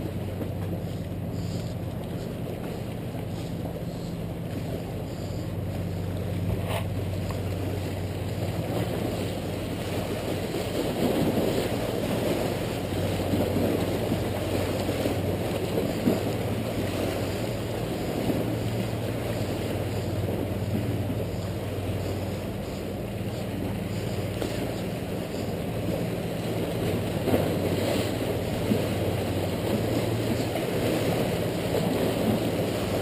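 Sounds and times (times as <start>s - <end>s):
sea waves splashing on boulders: 0.0s - 33.0s
steady low hum: 0.0s - 33.0s.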